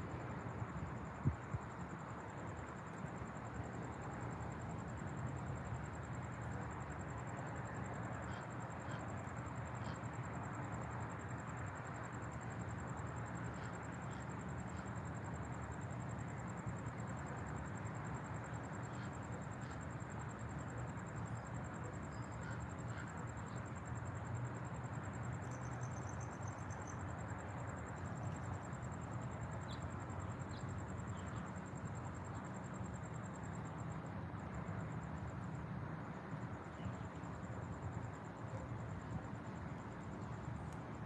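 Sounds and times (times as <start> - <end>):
cricket trilling: 0.1 - 41.0.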